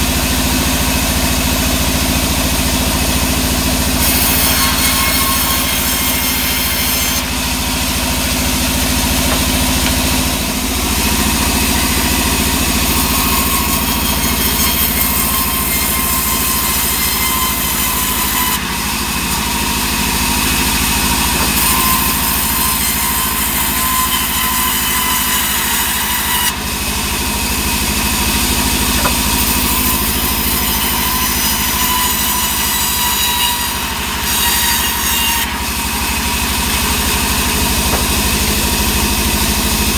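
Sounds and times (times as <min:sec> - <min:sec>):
band saw blade ripping wood: 0:04.0 - 0:24.3, 0:27.4 - 0:39.3.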